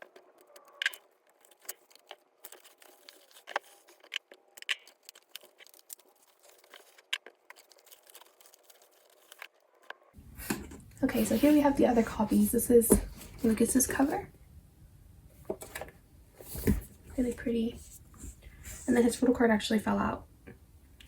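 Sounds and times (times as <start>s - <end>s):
paper rustling: 0.0s - 14.2s, 15.6s - 19.0s.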